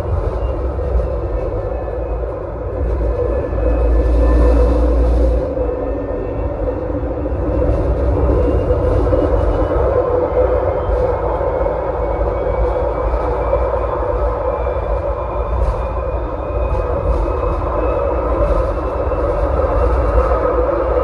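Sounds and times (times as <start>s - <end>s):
tram wheels rumbling on rail: 0.0s - 21.0s.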